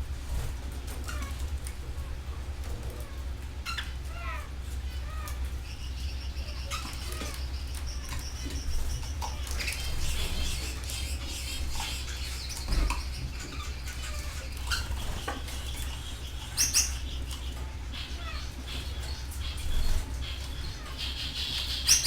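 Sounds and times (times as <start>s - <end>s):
steady low hum: 0.0s - 22.0s
canaries chirping: 0.3s - 22.0s.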